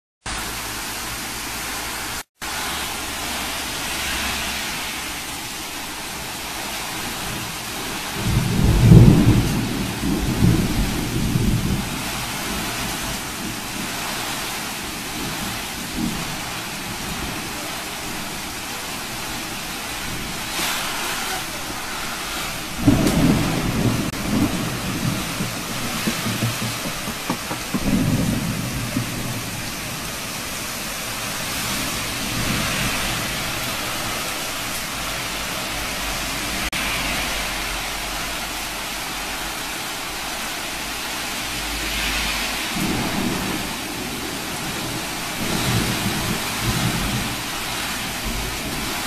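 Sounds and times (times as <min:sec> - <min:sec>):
heavy rain pouring: 0:00.2 - 0:49.0.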